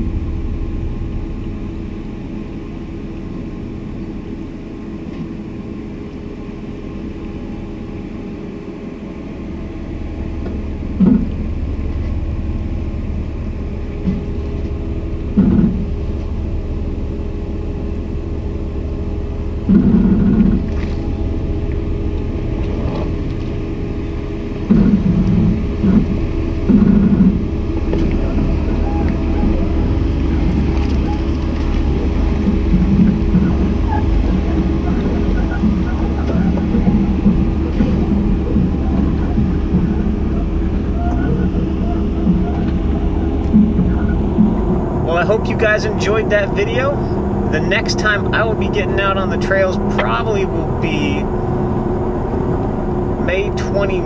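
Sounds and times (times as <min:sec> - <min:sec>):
off-road vehicle engine rumble: 0:00.0 - 0:54.0.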